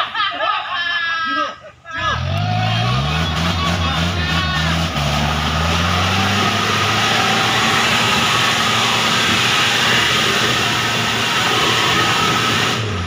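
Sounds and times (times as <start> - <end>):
engine revving hard: 2.0 - 13.0.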